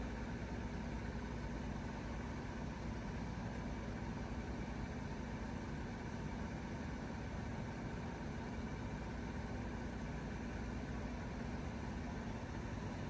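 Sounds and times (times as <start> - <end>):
compressor hum: 0.0 - 13.0.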